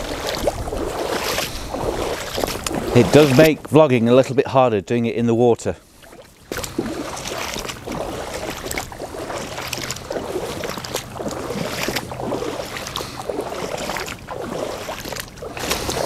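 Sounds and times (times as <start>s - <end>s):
boots wading through water: 0.0s - 4.6s, 5.8s - 16.0s.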